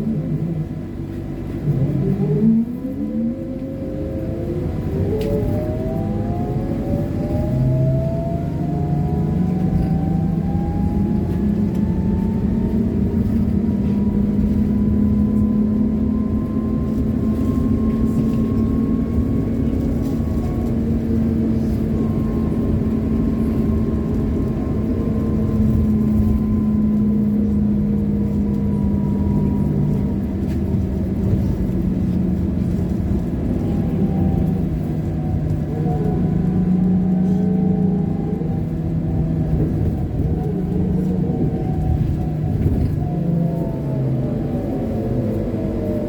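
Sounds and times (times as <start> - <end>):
road rumble: 0.0 - 46.0
trolleybus electric hum: 0.0 - 46.0.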